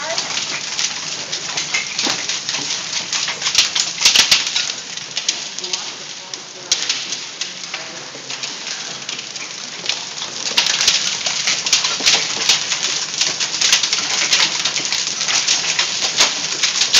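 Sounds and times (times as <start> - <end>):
hailstones striking hard surfaces: 0.0 - 16.9.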